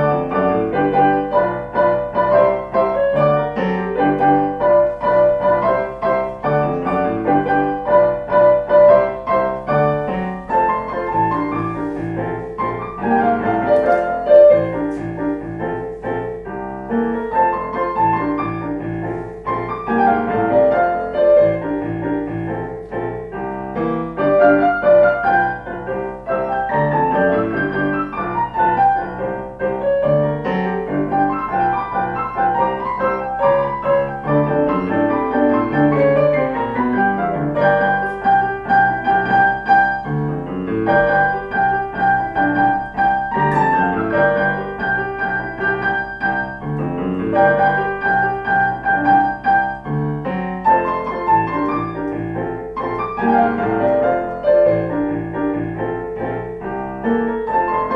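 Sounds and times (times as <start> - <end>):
piano playing: 0.0 - 57.9.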